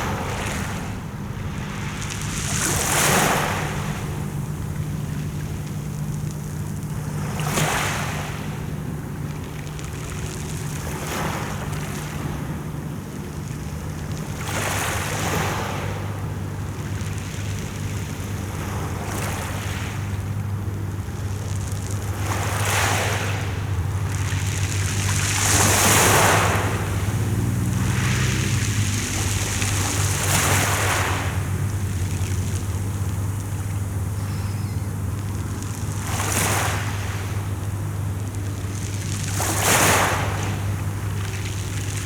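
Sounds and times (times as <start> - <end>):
sea waves breaking on shore: 0.0 - 42.0
steady low hum: 0.0 - 42.0.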